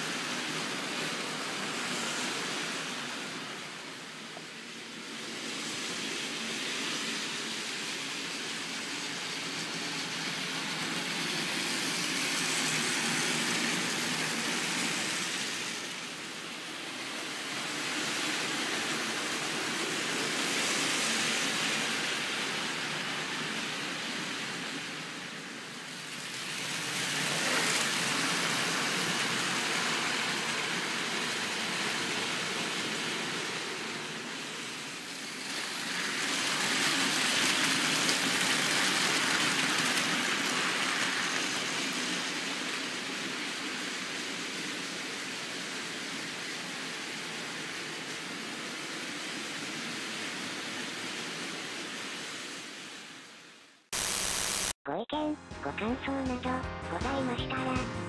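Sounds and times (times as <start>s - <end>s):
toy trains running on plastic track: 0.0s - 53.5s.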